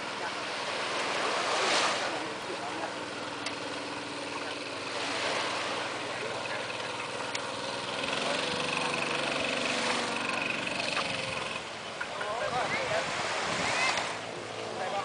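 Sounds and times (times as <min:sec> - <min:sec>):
boat engine droning: 0:00.0 - 0:15.0
waves washing on beach: 0:00.0 - 0:15.0.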